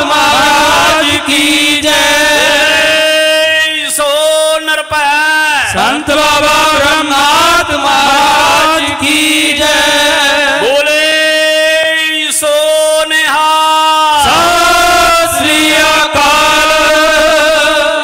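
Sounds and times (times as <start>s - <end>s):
person chanting over sound system: 0.0s - 18.0s.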